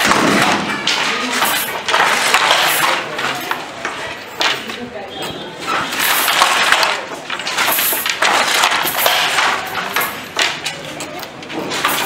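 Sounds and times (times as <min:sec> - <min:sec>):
wooden loom clattering and knocking: 0:00.0 - 0:12.0.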